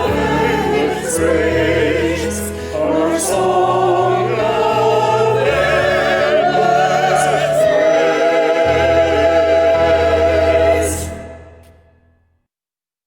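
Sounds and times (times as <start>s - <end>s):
person singing with vibrato: 0.0s - 11.4s.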